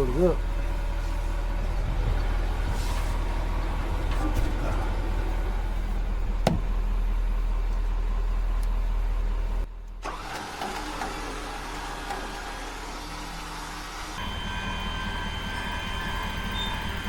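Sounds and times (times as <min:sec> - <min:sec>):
truck engine humming: 0:00.0 - 0:10.3, 0:11.1 - 0:17.0.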